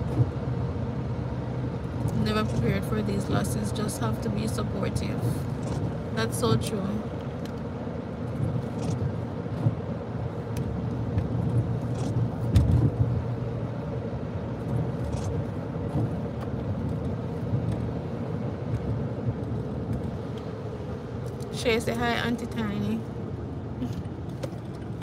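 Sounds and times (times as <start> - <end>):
engine and tyre rumble: 0.0 - 25.0
faint steady hum: 0.0 - 25.0.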